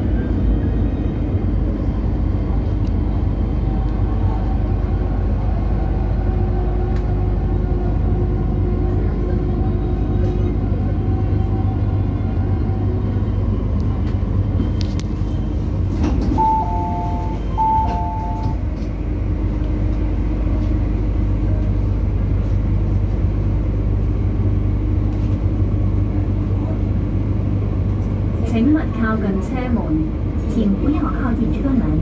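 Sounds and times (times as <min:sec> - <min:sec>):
train rumble and hum: 0:00.0 - 0:32.0.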